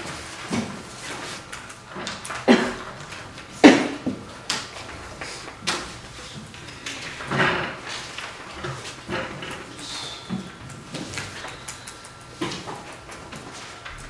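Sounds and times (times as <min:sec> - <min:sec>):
desks and chairs knocking and scraping: 0:00.0 - 0:11.7.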